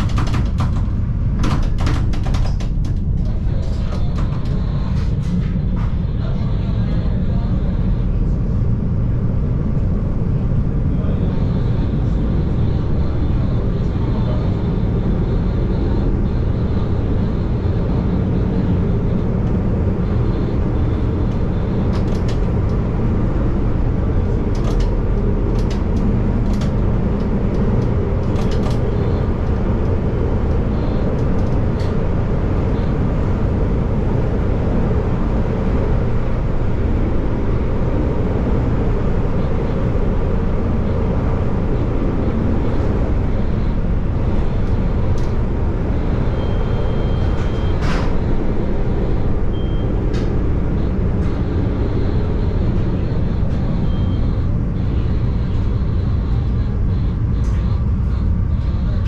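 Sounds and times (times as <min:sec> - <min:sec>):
train wheels rumbling on rail: 0:00.0 - 0:59.0
faint high whine: 0:03.6 - 0:59.0.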